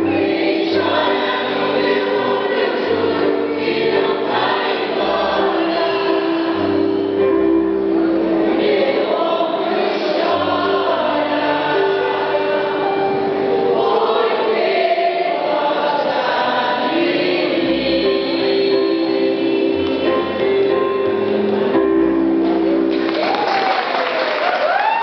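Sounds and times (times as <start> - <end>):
mixed choir singing: 0.0 - 21.4.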